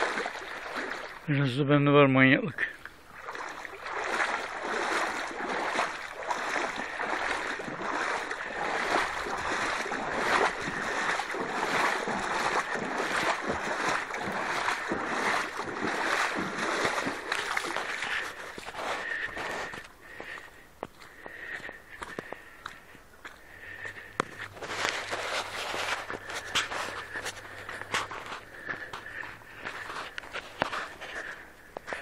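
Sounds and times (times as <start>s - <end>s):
stream flowing: 0.0s - 1.7s, 2.4s - 32.0s.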